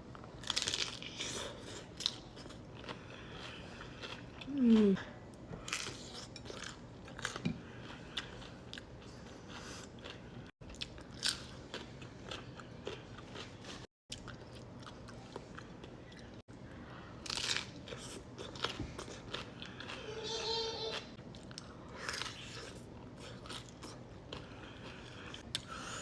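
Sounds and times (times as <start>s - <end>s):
crunching and chewing: 0.1s - 26.0s.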